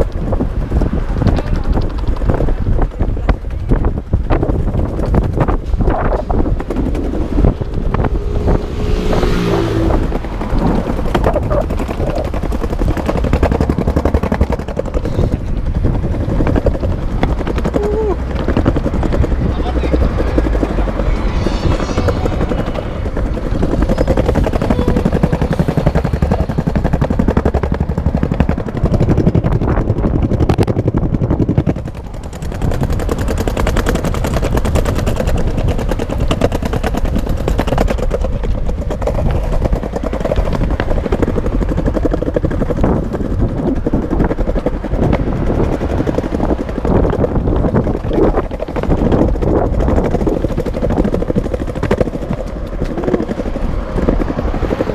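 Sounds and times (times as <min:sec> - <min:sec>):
skateboard wheels rolling on pavement: 0:00.0 - 0:54.9.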